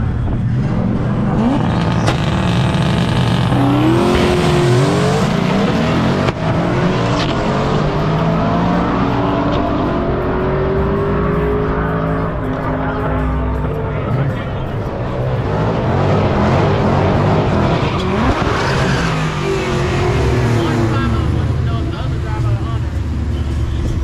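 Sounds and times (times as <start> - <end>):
cars accelerating hard: 0.0 - 24.0.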